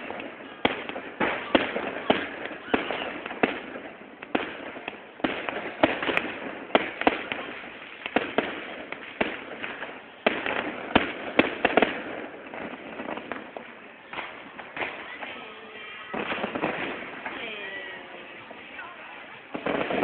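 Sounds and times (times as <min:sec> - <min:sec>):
fireworks banging: 0:00.0 - 0:20.0
fireworks crackling: 0:00.0 - 0:20.0.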